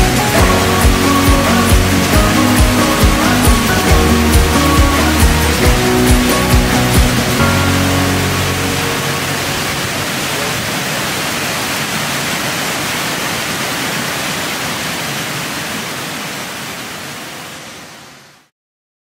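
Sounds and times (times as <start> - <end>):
stream water rushing over rocks: 0.0 - 18.5.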